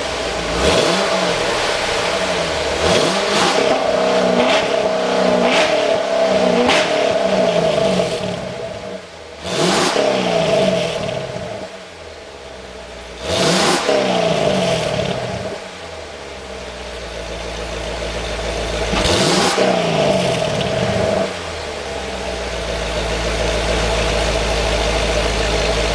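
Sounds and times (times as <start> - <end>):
car engine idling: 0.0 - 25.9
car engine revving: 0.0 - 25.9.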